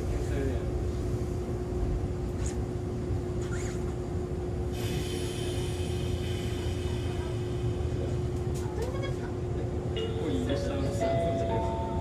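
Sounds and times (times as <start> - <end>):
train running rumble and hum: 0.0 - 12.0.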